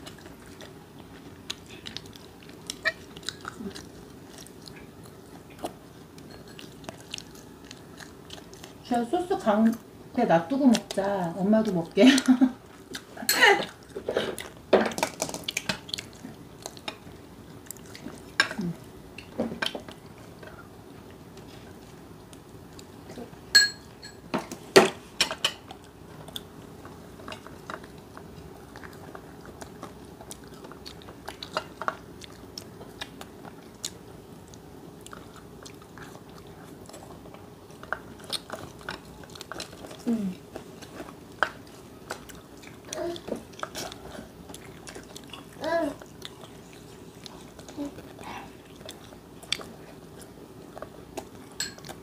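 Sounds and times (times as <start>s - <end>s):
chewing crispy fried chicken: 0.0s - 9.9s, 10.5s - 23.5s, 25.0s - 52.0s.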